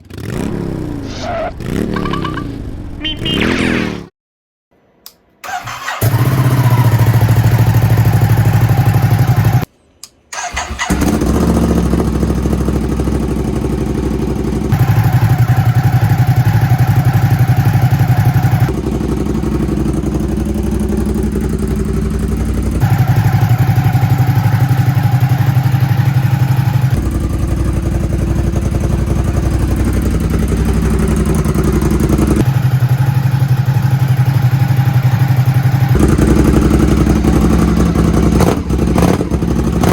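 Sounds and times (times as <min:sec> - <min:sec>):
motorcycle engine running: 0:01.6 - 0:03.9, 0:05.8 - 0:09.7, 0:10.4 - 0:39.9.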